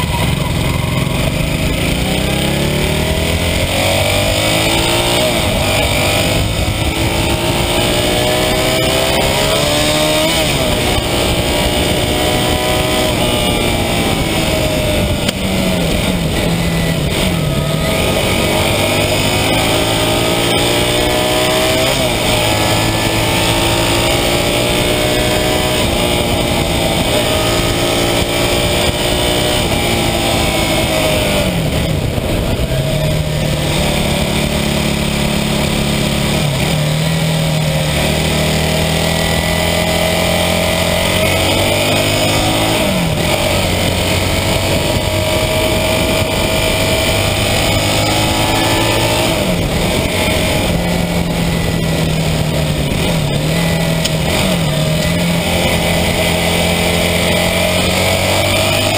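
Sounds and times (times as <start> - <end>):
motorcycle engine revving: 0.0 - 58.9
wind and road noise: 0.0 - 58.9.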